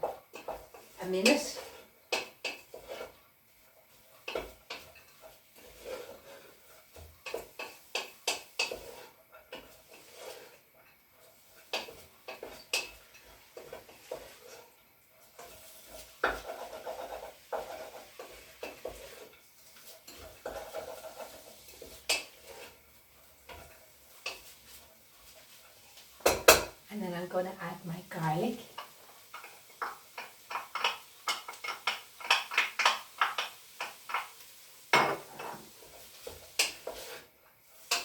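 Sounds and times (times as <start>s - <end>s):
spoon scraping a cooking pot: 0.0s - 26.8s, 28.5s - 38.0s.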